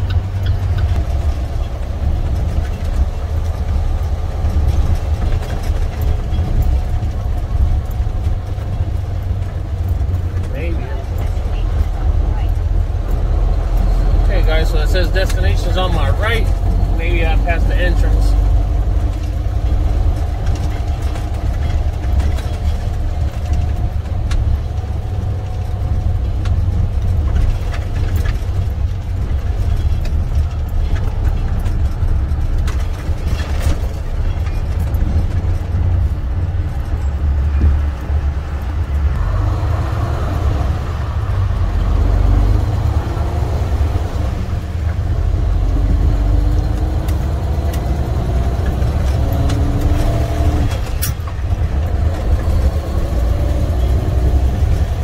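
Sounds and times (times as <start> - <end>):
road noise: 0.0 - 55.0
truck diesel engine running: 0.0 - 55.0.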